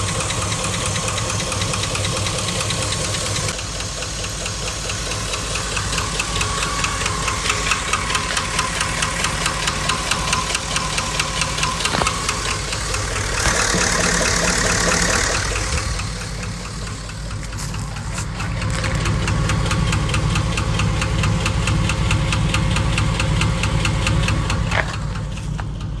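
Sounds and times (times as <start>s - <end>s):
engine running with ticking knock: 0.0s - 26.0s.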